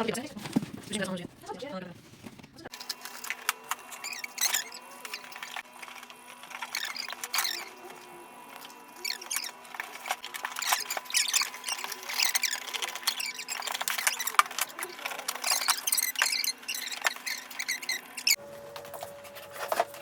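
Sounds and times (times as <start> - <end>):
cardboard scraping and crackling: 0.0 - 20.0.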